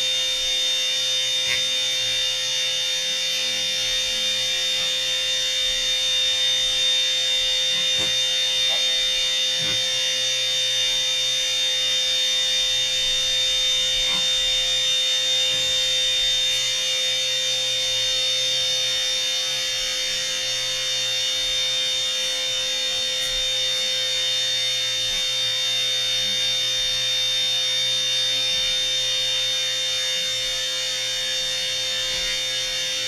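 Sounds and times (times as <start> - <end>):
vacuum motor whine: 0.0 - 33.0.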